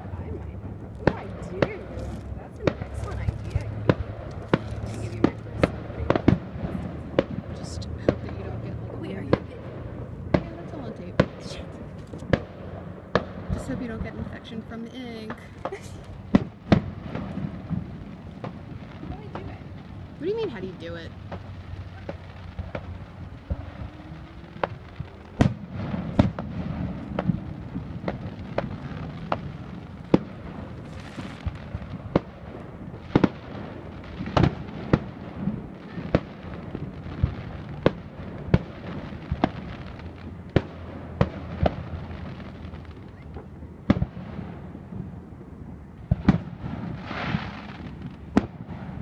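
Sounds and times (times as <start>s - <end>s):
rushing hiss of fireworks: 0.0s - 49.0s
firework shells bursting: 0.9s - 8.5s, 10.3s - 44.5s.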